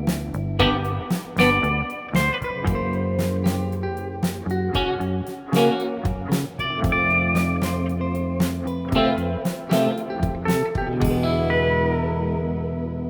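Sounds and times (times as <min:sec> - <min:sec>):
bass line: 0:00.0 - 0:13.0
electric guitar melody: 0:00.0 - 0:13.0
drum hits: 0:00.1 - 0:03.6, 0:04.3 - 0:11.4.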